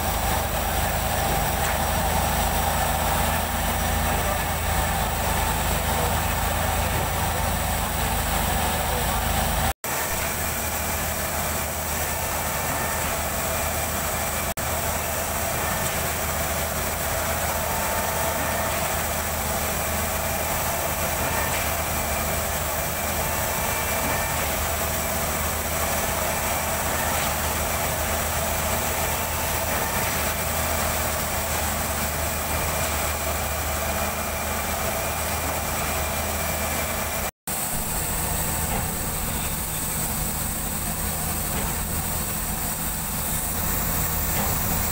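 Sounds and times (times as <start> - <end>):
concrete pump engine droning: 0.0 - 44.9.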